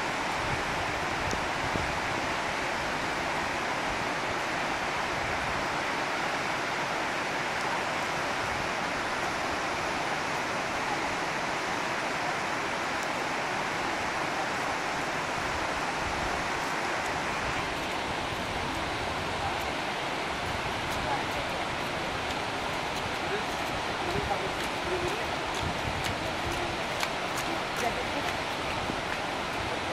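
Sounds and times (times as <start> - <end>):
stream tumbling over boulders: 0.0 - 29.9
waterfall rushing: 0.0 - 29.9.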